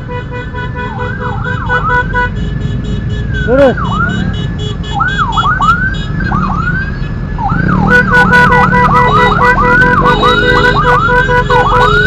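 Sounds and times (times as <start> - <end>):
vehicle engine rumbling: 0.0 - 12.0
ambulance siren: 0.7 - 2.3, 3.4 - 12.0.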